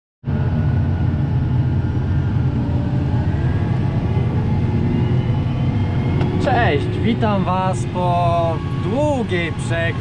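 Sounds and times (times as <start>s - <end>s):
tractor engine droning: 0.3s - 10.0s.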